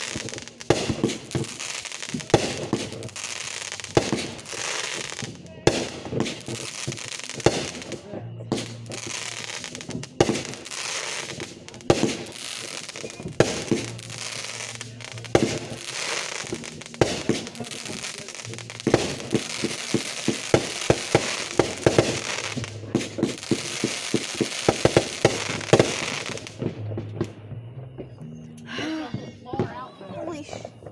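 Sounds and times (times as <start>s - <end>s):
crackling hiss: 0.0s - 27.3s
fireworks bangs: 0.0s - 28.5s.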